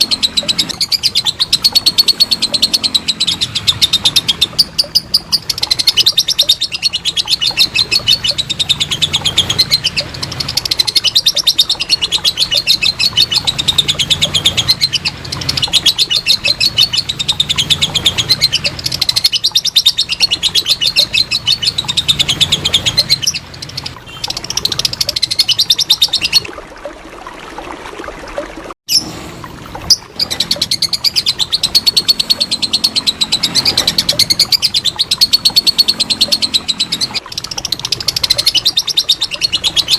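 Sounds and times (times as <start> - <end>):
lovebird chattering trill: 0.0 - 26.5, 29.8 - 39.9.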